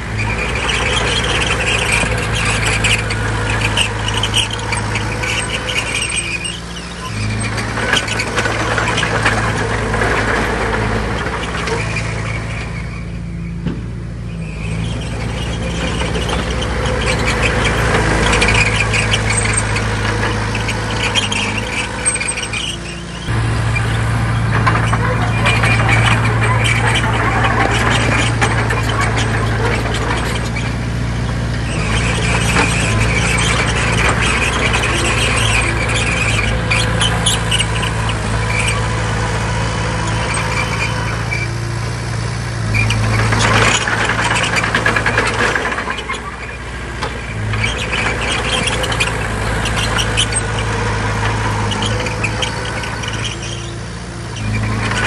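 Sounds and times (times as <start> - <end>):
heavy diesel engine working: 0.0 - 55.0
tracks squealing and clanking: 0.0 - 55.0.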